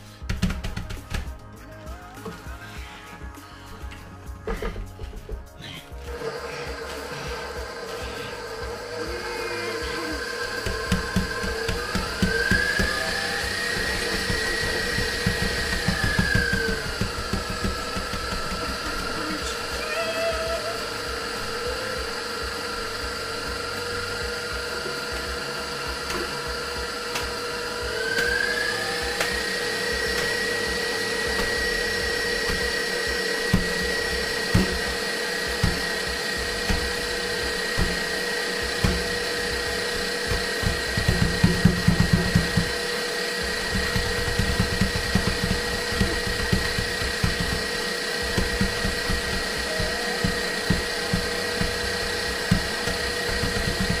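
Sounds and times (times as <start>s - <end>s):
electric mixer motor whine: 0.0s - 54.0s.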